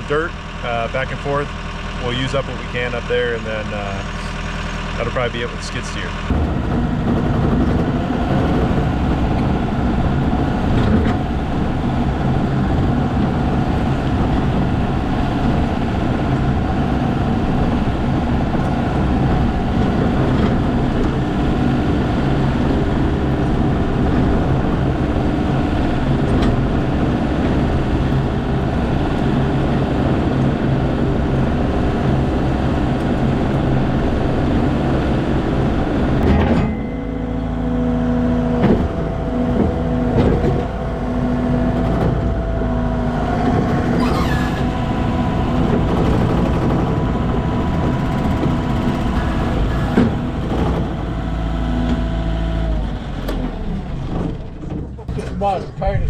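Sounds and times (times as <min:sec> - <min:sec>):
skid steer engine running loudly: 0:00.0 - 0:55.4.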